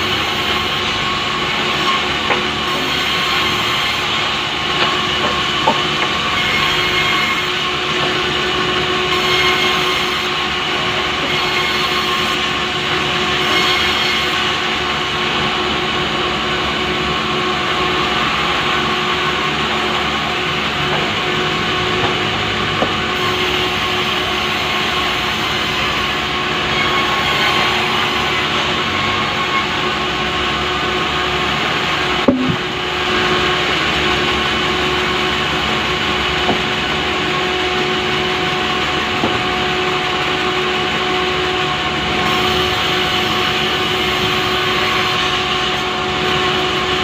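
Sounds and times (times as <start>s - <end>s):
power saw cutting log: 0.0s - 47.0s.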